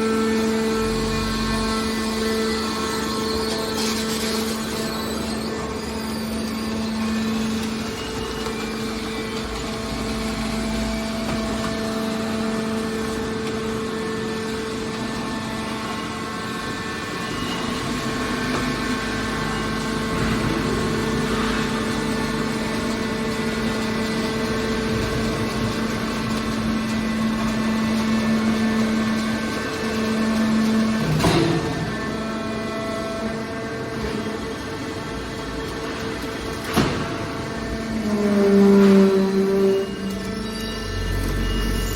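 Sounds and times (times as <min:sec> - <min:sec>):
baler power unit droning: 0:00.0 - 0:41.9.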